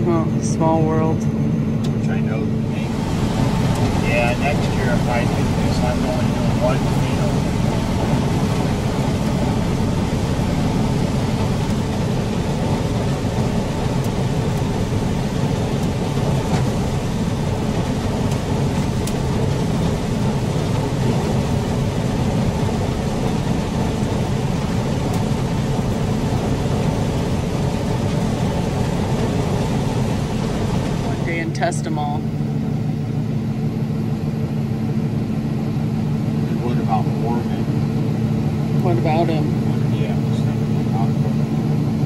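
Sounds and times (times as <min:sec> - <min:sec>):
combine harvester engine and threshing: 0:00.0 - 0:42.0.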